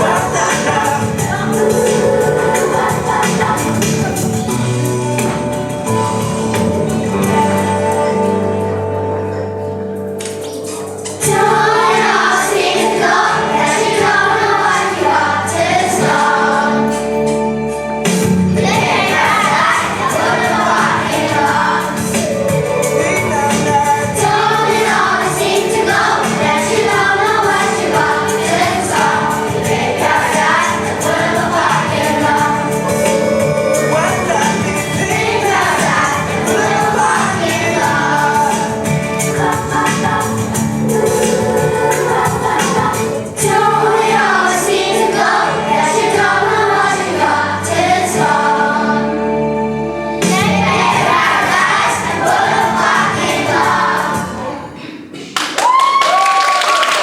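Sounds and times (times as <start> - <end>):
children singing together: 0.0 - 55.4
instrumental accompaniment: 0.0 - 55.4.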